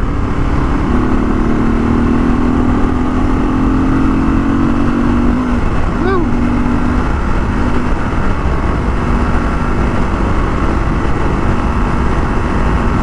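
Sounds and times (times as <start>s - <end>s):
motorcycle engine running hard: 0.0s - 13.0s
wind rumble on microphone: 0.0s - 13.0s.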